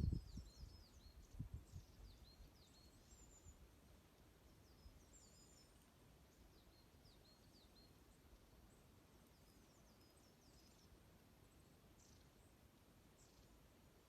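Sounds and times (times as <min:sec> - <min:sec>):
low background hiss: 0:00.0 - 0:14.0
songbirds chirping: 0:00.0 - 0:14.0.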